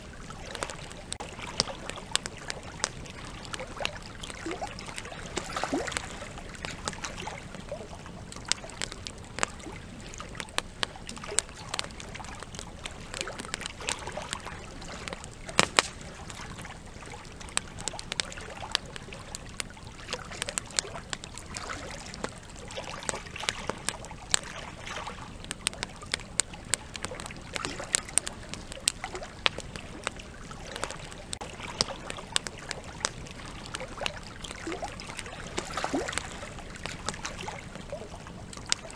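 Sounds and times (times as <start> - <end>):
river water flowing: 0.0 - 26.2, 26.9 - 38.9
campfire wood crackling: 0.0 - 38.9.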